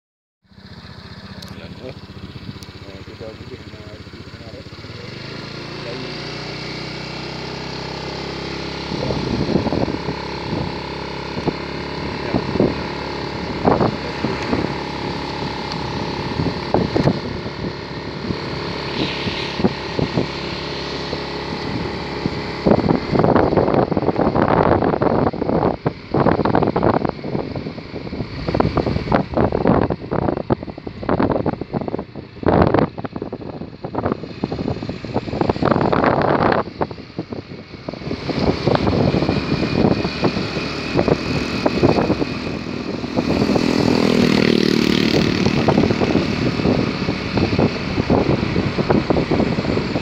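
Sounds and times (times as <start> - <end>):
motorcycle engine running: 0.4 - 50.0
wind buffeting microphone: 6.5 - 50.0.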